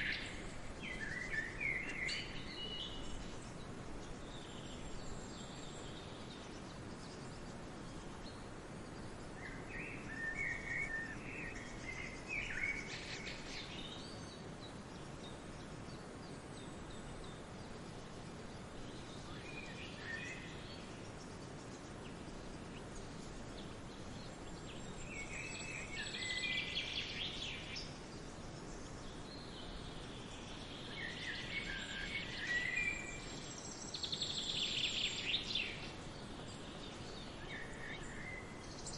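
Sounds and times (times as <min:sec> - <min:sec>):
songbirds chirping: 0:00.0 - 0:38.9
steady background hiss: 0:00.0 - 0:38.9.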